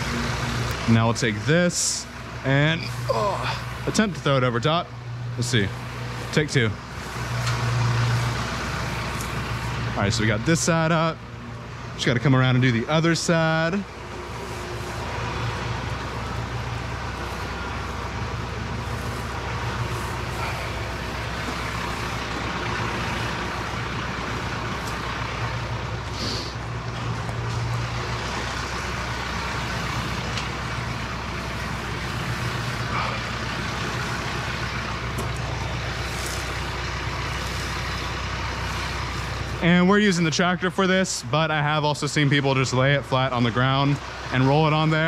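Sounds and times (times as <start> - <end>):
tractor engine humming: 0.0 - 45.0.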